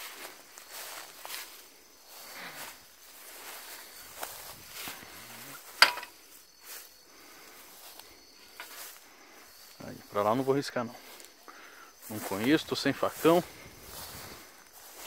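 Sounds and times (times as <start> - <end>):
faint insect buzzing: 0.0 - 15.0
footsteps through tall grass: 0.0 - 15.0.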